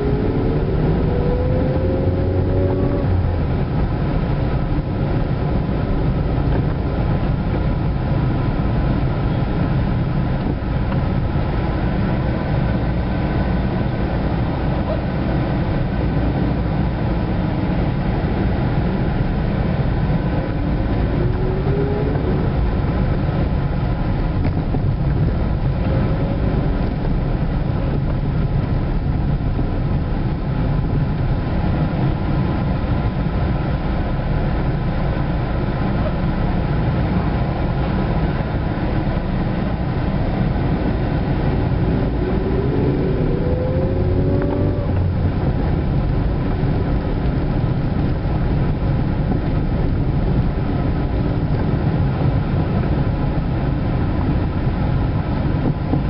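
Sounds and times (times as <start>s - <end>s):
car engine inside cabin: 0.0s - 56.0s
road noise: 0.0s - 56.0s.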